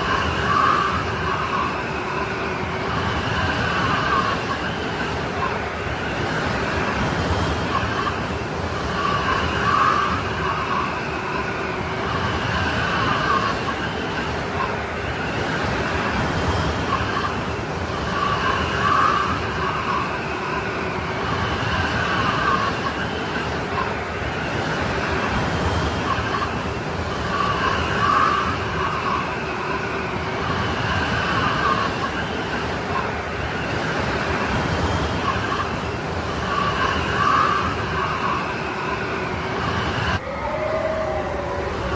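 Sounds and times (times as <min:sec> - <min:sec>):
strong wind howling: 0:00.0 - 0:41.9.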